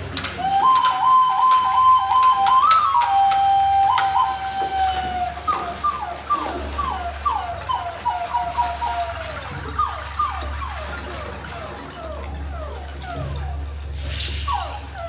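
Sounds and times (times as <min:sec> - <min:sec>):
whistle-like tone and falling swoops: 0:00.4 - 0:15.0.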